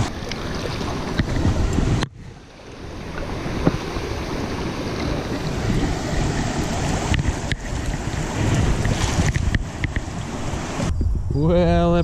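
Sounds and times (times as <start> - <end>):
stream water running: 0.0 - 11.0
wind noise on microphone: 0.0 - 12.0.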